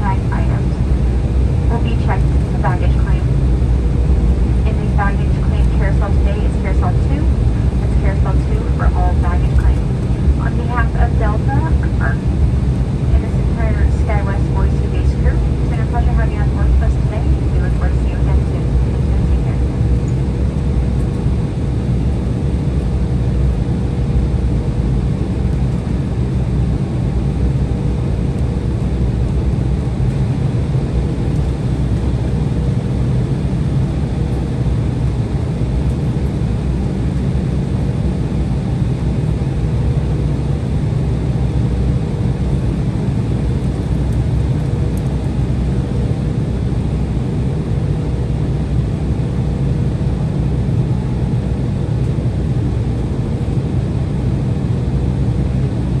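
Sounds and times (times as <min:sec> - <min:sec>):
faint steady hum: 0:00.0 - 0:56.0
jet cabin low rumble: 0:00.0 - 0:56.0.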